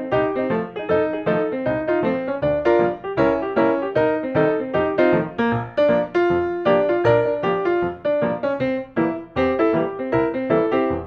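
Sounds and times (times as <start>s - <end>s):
keyboard playing chords: 0.0s - 11.0s.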